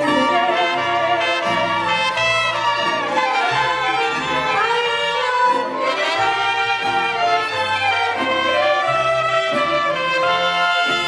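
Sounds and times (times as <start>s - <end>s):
mariachi band playing: 0.0s - 11.0s
trumpet: 0.0s - 11.0s
violins playing melody: 0.0s - 11.0s.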